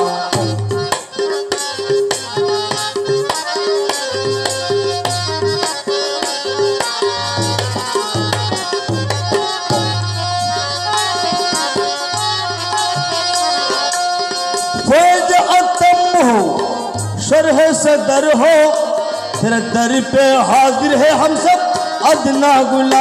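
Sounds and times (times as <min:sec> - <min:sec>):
harmonium melody: 0:00.0 - 0:23.0
tabla rhythm: 0:00.0 - 0:23.0.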